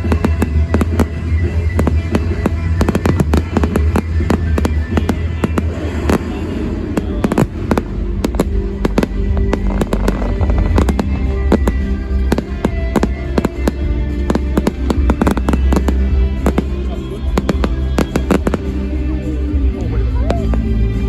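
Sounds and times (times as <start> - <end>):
fireworks bangs and crackles: 0.0 - 21.0
music with heavy bass: 0.0 - 21.0.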